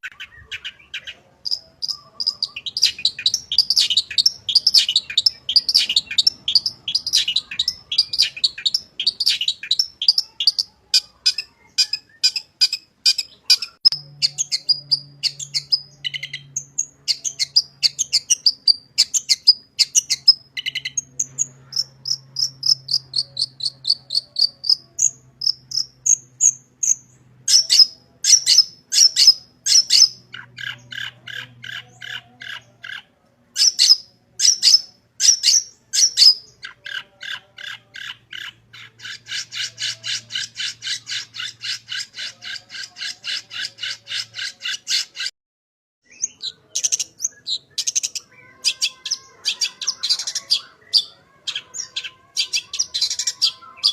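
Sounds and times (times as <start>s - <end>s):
shrike singing: 0.0s - 45.3s, 46.0s - 53.9s.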